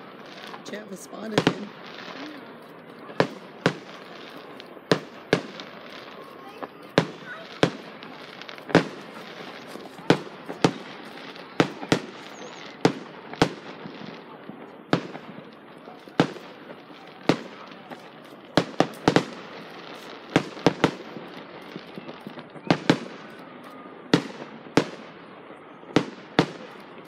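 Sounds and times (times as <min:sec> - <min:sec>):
fireworks bursting with sharp bangs: 0:00.0 - 0:27.0.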